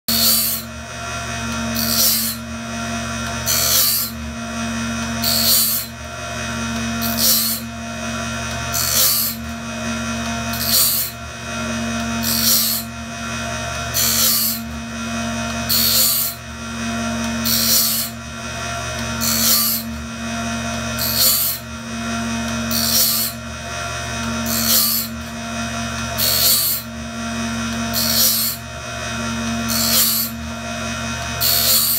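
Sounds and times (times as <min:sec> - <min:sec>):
grinding wheel on blade: 0:00.1 - 0:31.9
motor hum: 0:00.1 - 0:31.9.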